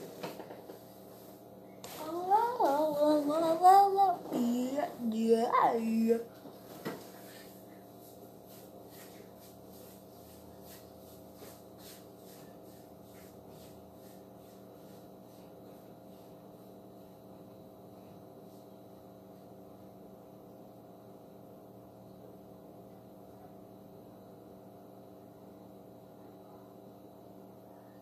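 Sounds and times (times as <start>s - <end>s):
quiet steady hum: 0.0s - 28.0s.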